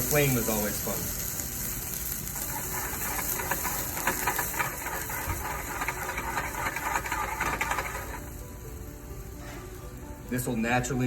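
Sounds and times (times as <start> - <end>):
wine sizzling in a hot pan: 0.0 - 11.0.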